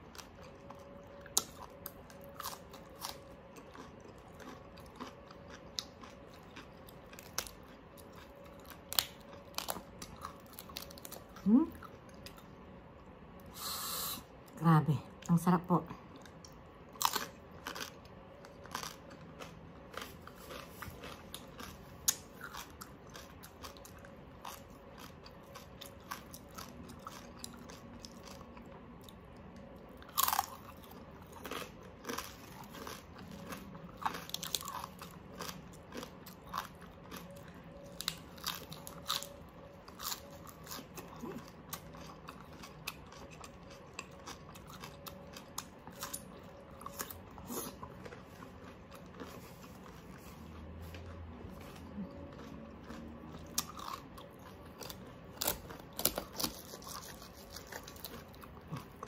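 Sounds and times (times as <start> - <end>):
crunchy chewing and biting: 0.0 - 13.6, 16.1 - 59.0.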